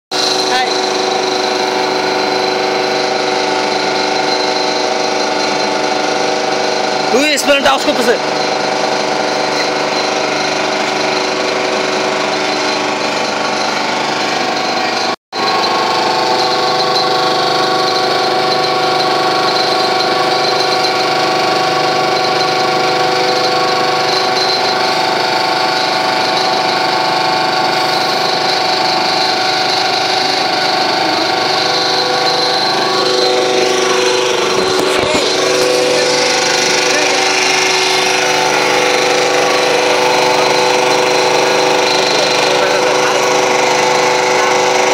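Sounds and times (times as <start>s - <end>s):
hydraulic motor hum and whine: 0.1s - 44.9s.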